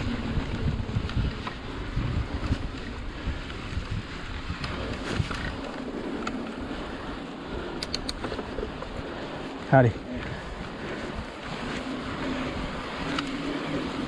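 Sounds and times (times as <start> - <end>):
bike clicks and rattles: 0.0 - 14.0
bike tyres rolling on dirt: 0.0 - 14.0
wind buffeting microphone: 0.0 - 14.0.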